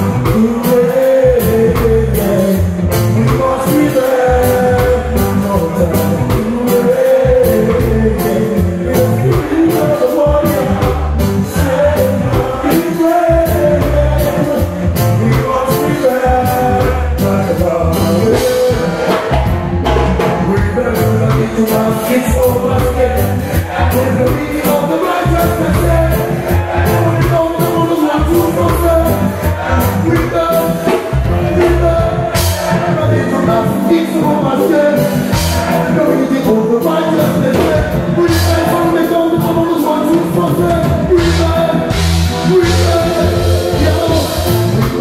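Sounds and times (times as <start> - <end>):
person singing into a microphone: 0.0 - 19.5, 20.2 - 45.0
drum beat: 0.0 - 45.0
live band music: 0.0 - 45.0.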